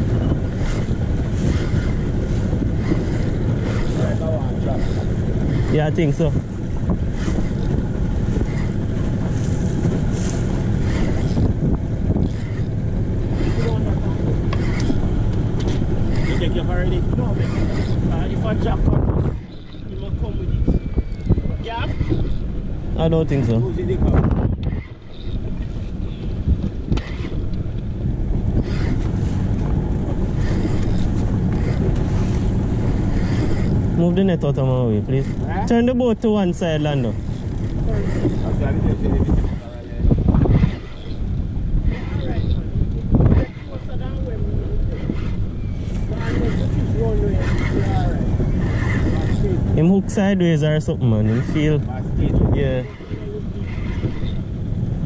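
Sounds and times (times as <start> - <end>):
outboard motor running: 0.0 - 55.0
water rushing along boat hull: 0.0 - 55.0
wind buffeting microphone: 0.0 - 55.0.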